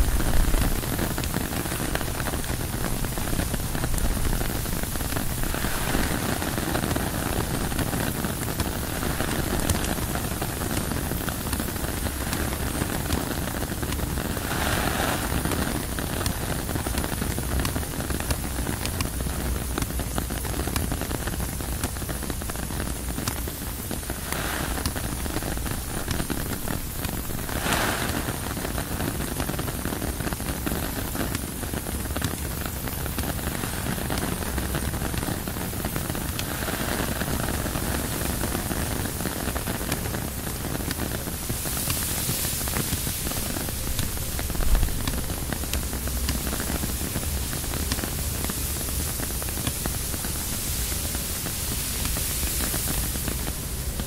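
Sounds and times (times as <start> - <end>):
rain on tent fabric: 0.0 - 54.0.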